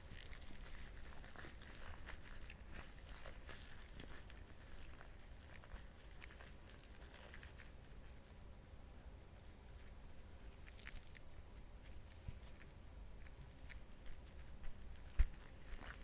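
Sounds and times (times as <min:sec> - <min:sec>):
hands kneading sticky butter: 0:00.0 - 0:16.0.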